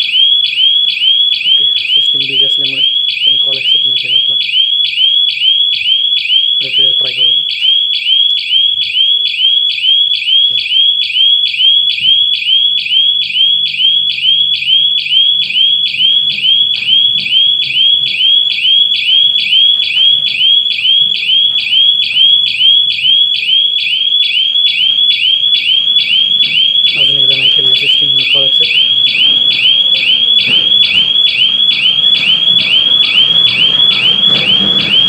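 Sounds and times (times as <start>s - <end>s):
burglar alarm chirping: 0.0s - 35.0s.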